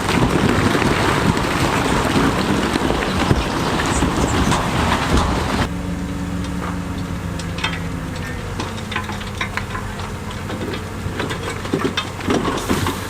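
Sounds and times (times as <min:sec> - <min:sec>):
crackles and clicks: 0:00.0 - 0:13.0
dense rushing noise: 0:00.0 - 0:13.0
diesel engine running at low revs: 0:00.0 - 0:13.0.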